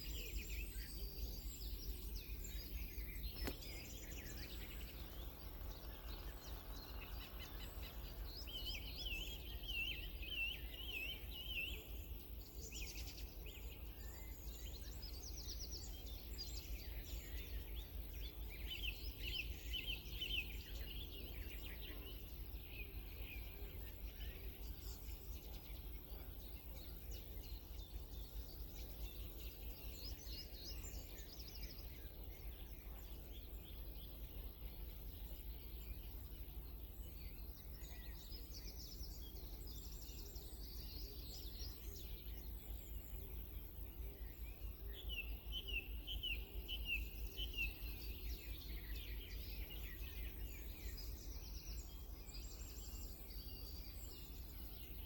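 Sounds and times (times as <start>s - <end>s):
songbirds warbling and trilling: 0.0s - 55.0s.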